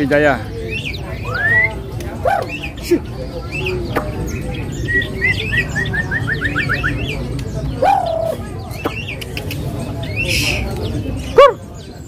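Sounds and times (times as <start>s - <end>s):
songbird whistling song: 0.5s - 12.0s.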